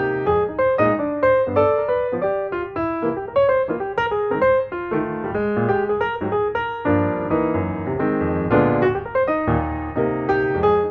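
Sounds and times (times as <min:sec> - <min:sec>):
background piano music: 0:00.0 - 0:10.9.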